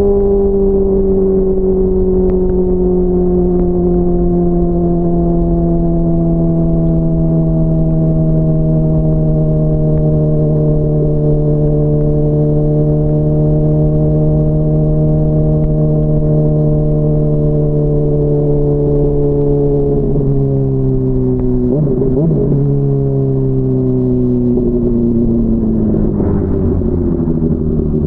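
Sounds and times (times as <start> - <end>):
low rumble: 0.0 - 28.0
motorcycle engine running: 0.0 - 28.0.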